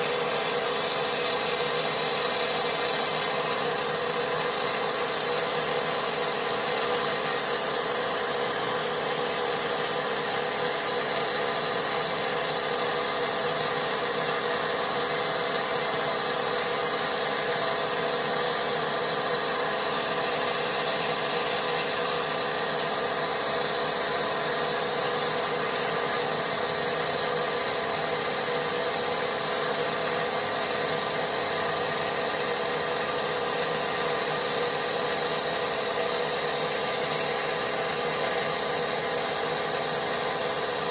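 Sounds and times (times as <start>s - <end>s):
compressed air abrasive spraying: 0.0s - 40.9s.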